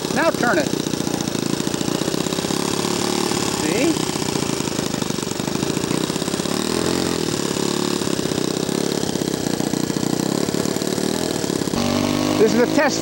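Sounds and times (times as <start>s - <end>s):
model airplane engine running: 0.0s - 13.0s.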